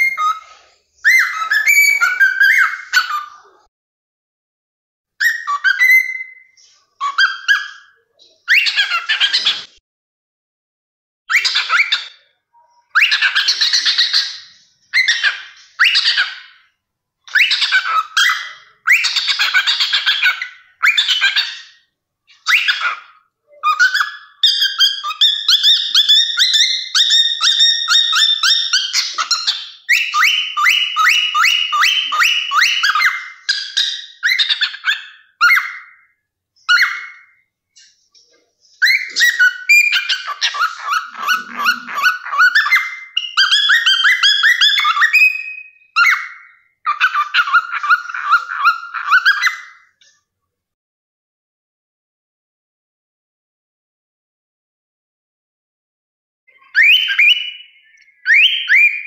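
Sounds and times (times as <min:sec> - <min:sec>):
cockatiel singing and whistling: 0:00.0 - 0:03.6, 0:05.2 - 0:09.7, 0:11.3 - 0:16.7, 0:17.3 - 0:38.0, 0:38.6 - 0:49.9, 0:56.5 - 0:59.0.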